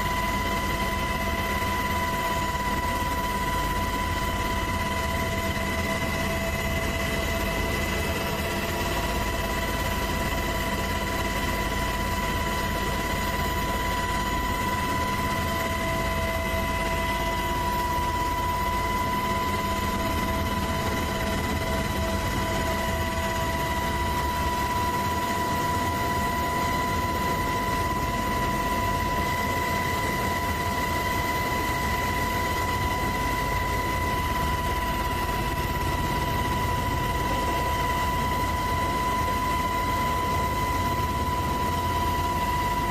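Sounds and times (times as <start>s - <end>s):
helicopter engine and rotor drone: 0.0s - 42.9s.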